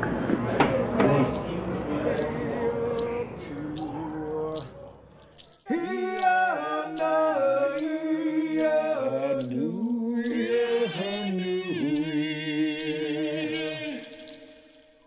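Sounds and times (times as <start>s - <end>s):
layered singing voices: 1.0s - 14.6s.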